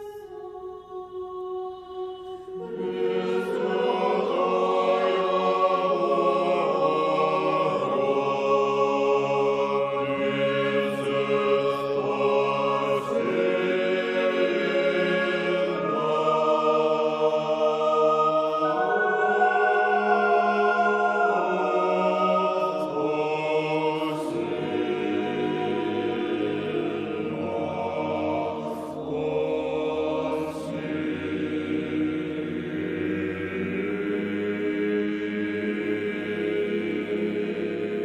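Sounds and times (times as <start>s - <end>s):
choir singing unaccompanied: 0.0s - 38.0s.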